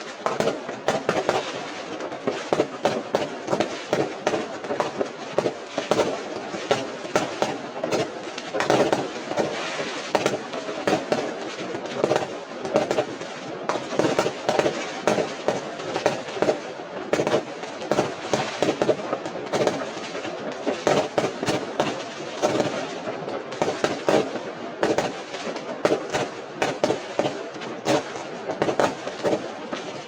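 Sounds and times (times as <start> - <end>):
continuous hiss and rumble: 0.0 - 30.0
fireworks banging and crackling: 0.0 - 30.0.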